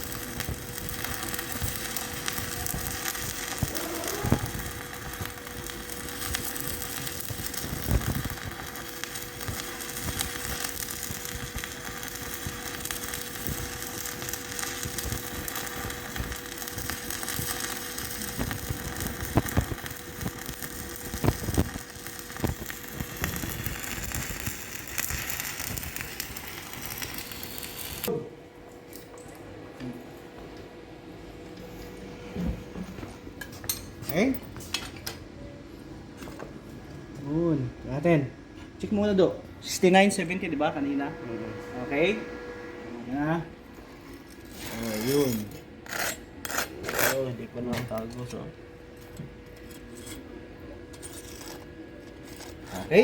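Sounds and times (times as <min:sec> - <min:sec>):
welding arc crackling and sizzling: 0:00.0 - 0:28.1, 0:37.4 - 0:42.2, 0:43.1 - 0:53.0.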